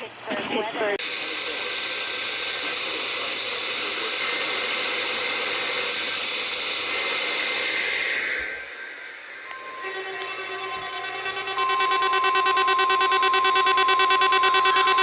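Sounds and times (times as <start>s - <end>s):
radio static hiss: 1.0s - 8.6s, 9.9s - 15.0s.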